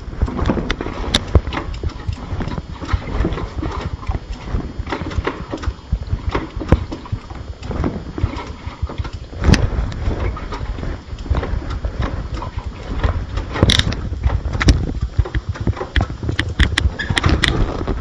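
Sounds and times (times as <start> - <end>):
knocks and rattles: 0.0 - 18.0.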